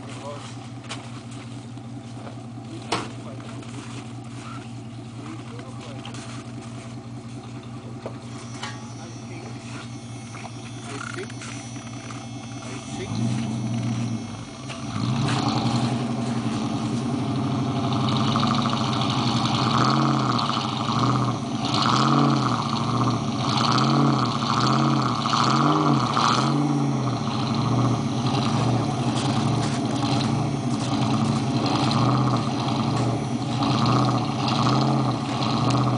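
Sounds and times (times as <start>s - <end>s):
engine revving: 2.0s - 35.9s.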